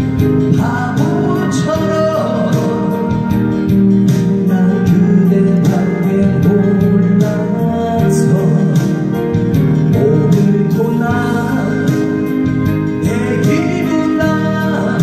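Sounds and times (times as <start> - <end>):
ballad accompaniment with guitar: 0.0 - 15.0
man singing into a microphone: 0.0 - 15.0
steady beat: 0.0 - 15.0.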